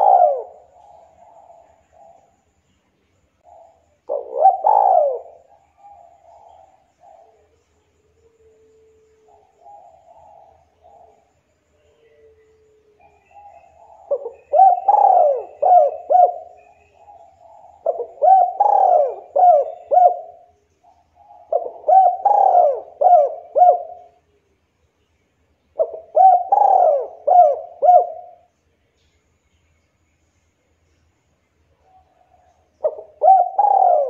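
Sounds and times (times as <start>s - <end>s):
dove cooing: 0.0s - 2.4s, 3.4s - 24.2s, 25.8s - 28.5s, 31.9s - 34.0s.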